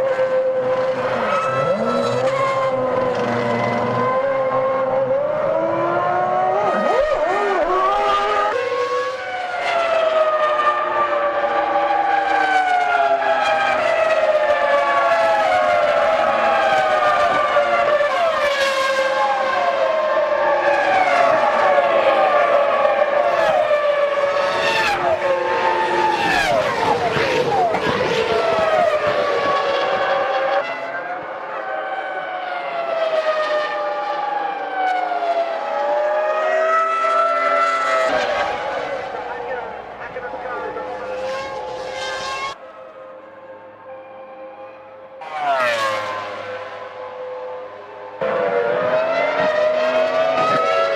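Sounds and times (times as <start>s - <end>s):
racing car engine at high revs: 0.0s - 50.9s.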